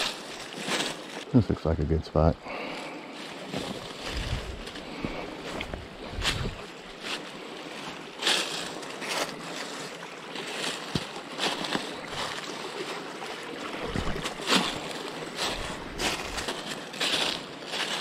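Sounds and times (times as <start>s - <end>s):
footsteps crunching through dry leaves: 0.0s - 18.0s.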